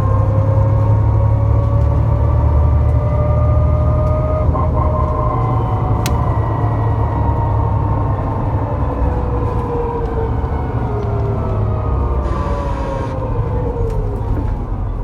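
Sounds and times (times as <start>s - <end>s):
bus axle whine: 0.0s - 15.0s
bus drive rumble: 0.0s - 15.0s.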